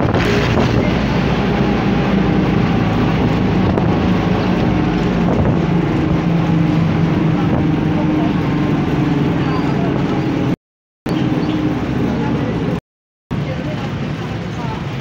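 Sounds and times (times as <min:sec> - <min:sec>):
vehicle engine running: 0:00.0 - 0:15.0
wind and road noise: 0:00.0 - 0:15.0.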